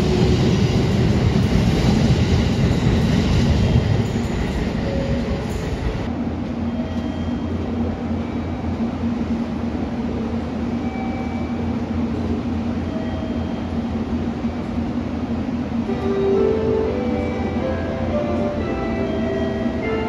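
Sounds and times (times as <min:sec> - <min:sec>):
stationary electric train humming: 0:00.0 - 0:20.0.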